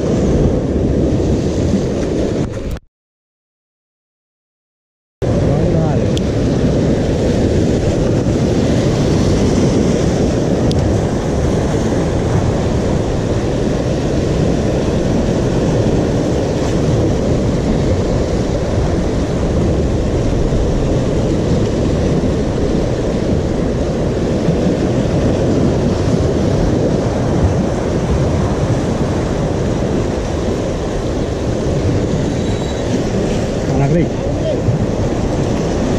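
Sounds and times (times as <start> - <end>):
surf washing over rocks: 0.0 - 2.8, 5.2 - 35.9
wind buffeting microphone: 0.0 - 2.8, 5.2 - 35.9.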